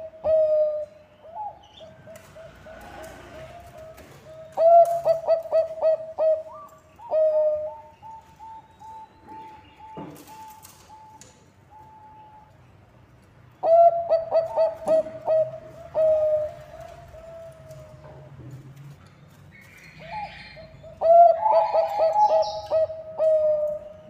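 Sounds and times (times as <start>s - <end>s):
dove cooing: 0.0s - 11.2s, 13.6s - 18.3s, 20.0s - 24.0s.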